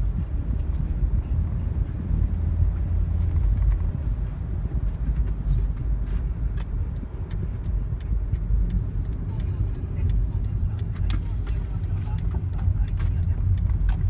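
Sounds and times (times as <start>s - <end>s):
engine and tyres rumbling on road: 0.0s - 14.0s.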